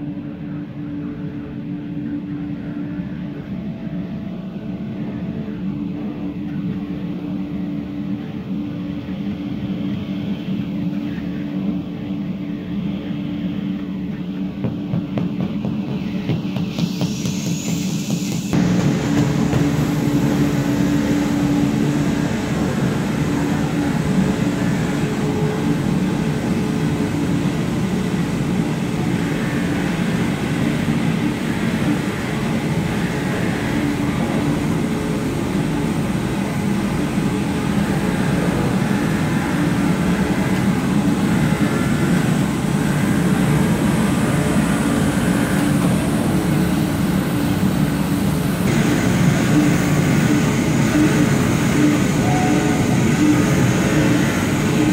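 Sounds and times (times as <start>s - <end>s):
machine humming: 0.0s - 54.9s.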